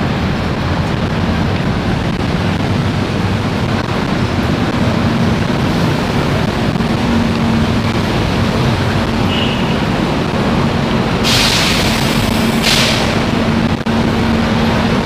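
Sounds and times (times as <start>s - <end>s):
diesel buses idling: 0.0s - 15.0s.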